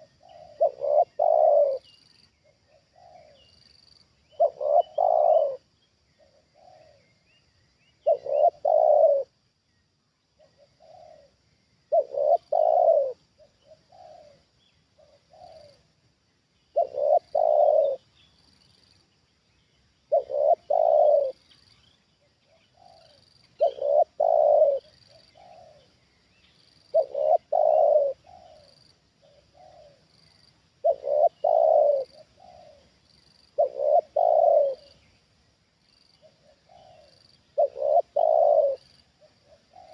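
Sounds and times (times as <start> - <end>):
dove cooing: 0.0 - 3.5, 4.3 - 7.1, 8.0 - 9.4, 10.4 - 15.9, 16.7 - 18.0, 20.1 - 26.0, 26.8 - 35.1, 36.2 - 39.9.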